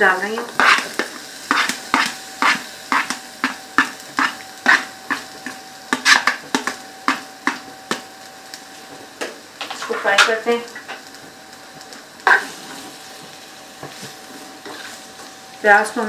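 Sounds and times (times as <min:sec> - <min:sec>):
onions frying in oil: 0:00.0 - 0:16.0.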